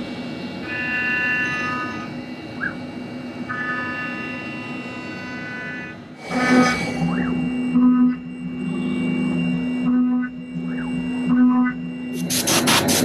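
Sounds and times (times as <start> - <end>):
high-pitched cutting whine: 0.0 - 13.0
steady machine noise: 0.0 - 13.0.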